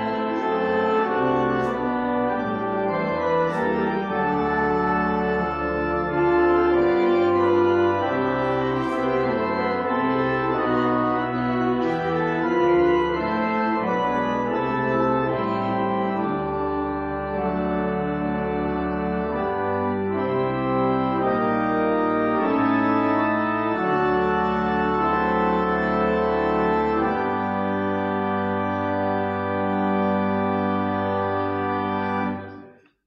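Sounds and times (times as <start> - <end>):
church organ playing hymn chords: 0.0 - 33.0.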